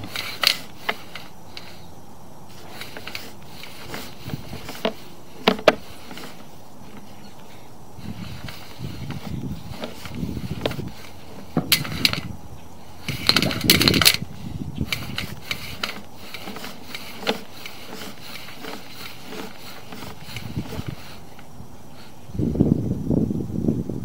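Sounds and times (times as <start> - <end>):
cable clicking and rattling in pipe: 0.0 - 1.9, 2.5 - 7.2, 8.0 - 12.4, 13.0 - 21.5
steady hiss: 0.0 - 24.0.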